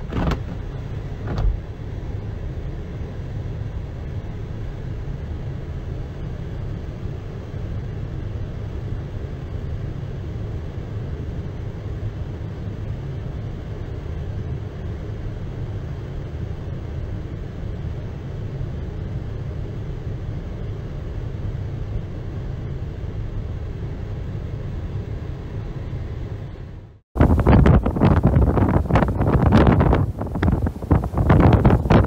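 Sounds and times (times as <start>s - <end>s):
engine and road noise: 0.0s - 32.0s
wind buffeting vehicle: 0.0s - 32.0s.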